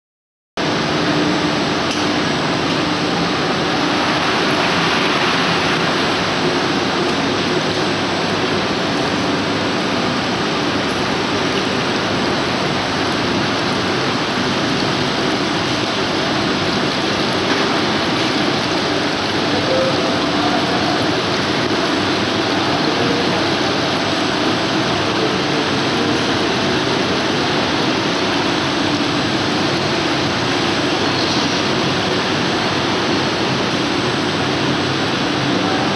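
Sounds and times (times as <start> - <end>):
cooling blowers: 0.6 - 35.9.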